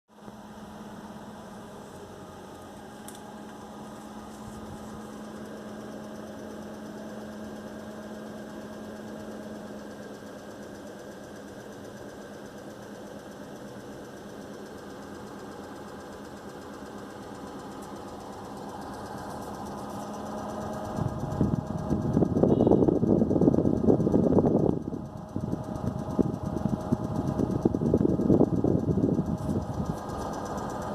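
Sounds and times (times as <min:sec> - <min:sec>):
engine running with low hum: 0:00.1 - 0:30.9.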